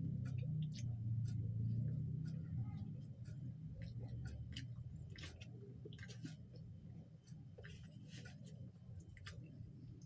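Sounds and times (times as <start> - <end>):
low steady hum: 0.0 - 10.0
chewing with mouth clicks: 0.2 - 10.0.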